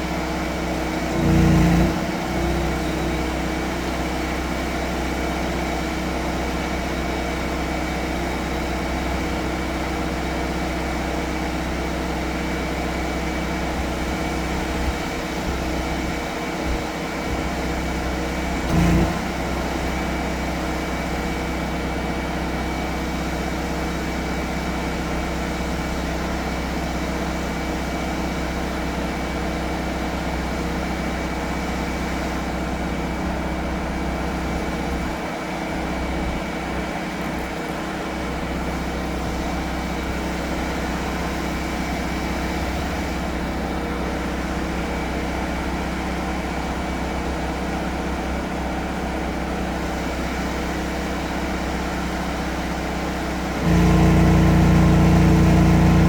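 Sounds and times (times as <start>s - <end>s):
drain jetter engine and pump running: 0.0s - 56.0s.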